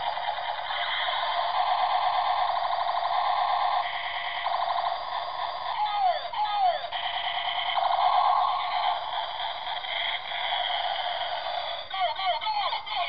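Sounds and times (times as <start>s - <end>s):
toy alarm-like tones: 0.0s - 13.0s.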